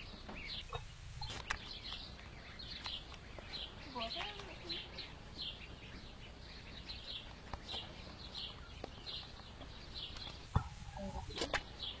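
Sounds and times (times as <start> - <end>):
duckling peeping: 0.0 - 12.0.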